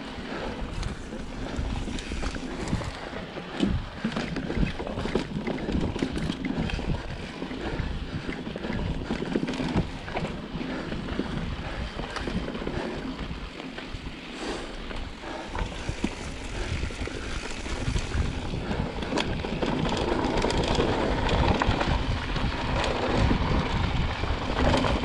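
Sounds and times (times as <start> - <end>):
bike rattling and knocking: 0.0 - 25.0
bike tyres rolling over dirt: 0.0 - 25.0
wind buffeting microphone: 0.0 - 25.0.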